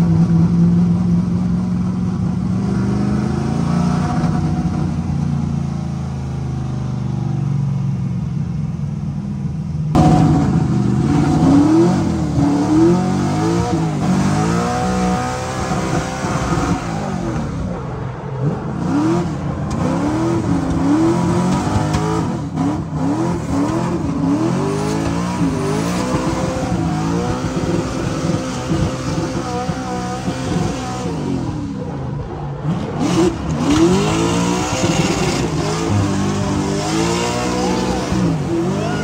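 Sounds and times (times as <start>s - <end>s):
car engine revving: 0.0s - 7.9s, 9.9s - 39.0s.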